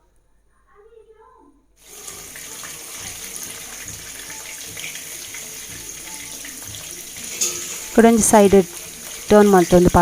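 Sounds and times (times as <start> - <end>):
chicken frying in oil: 1.8 - 10.0.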